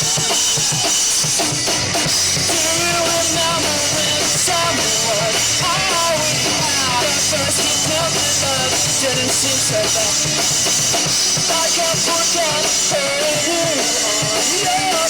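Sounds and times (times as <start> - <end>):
live punk rock band: 0.0 - 15.0.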